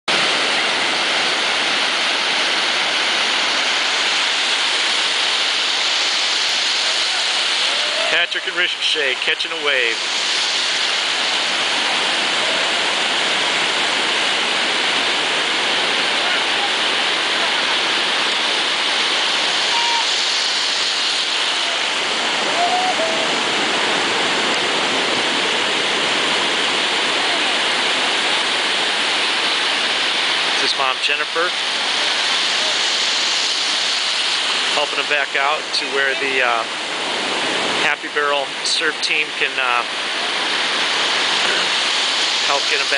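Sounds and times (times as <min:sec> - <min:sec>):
ocean surf breaking: 0:00.1 - 0:42.9.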